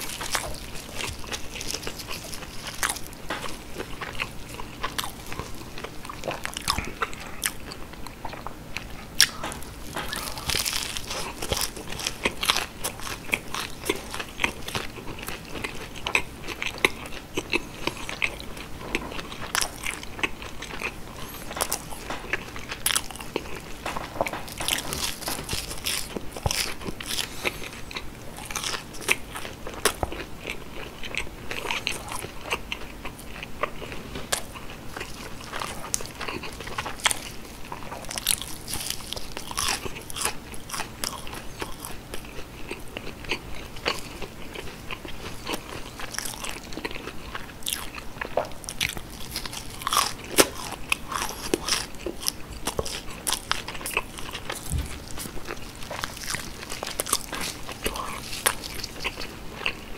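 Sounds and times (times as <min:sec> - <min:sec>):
crunchy fried food chewing: 0:00.0 - 0:59.9.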